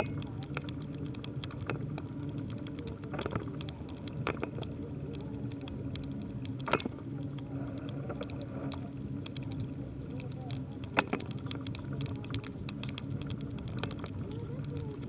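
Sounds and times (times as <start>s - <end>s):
bicycle riding rumble: 0.0s - 15.0s
small clicks and rattles: 0.0s - 15.0s.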